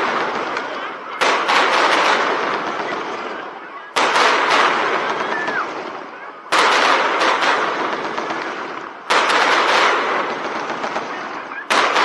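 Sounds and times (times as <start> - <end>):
fireworks bursting with crackling: 0.0 - 12.0.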